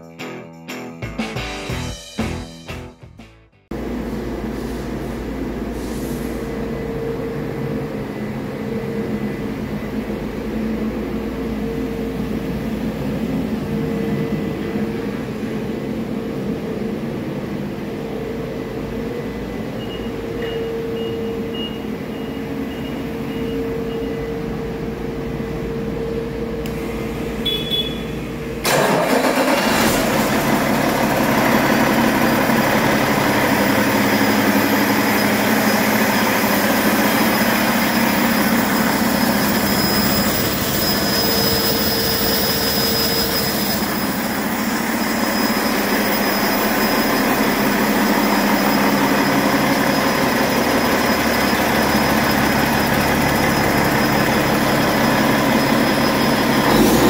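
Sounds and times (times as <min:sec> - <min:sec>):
diesel engine idling: 0:03.8 - 0:57.0.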